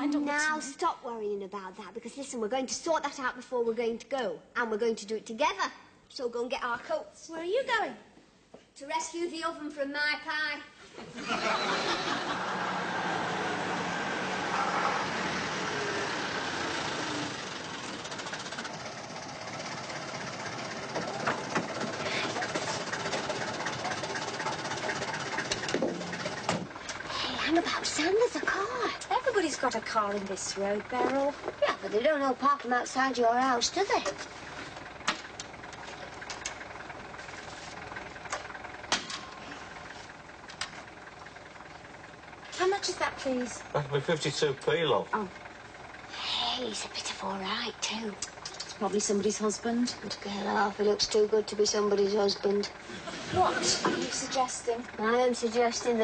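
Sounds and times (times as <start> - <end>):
car engine running: 11.0 - 56.0.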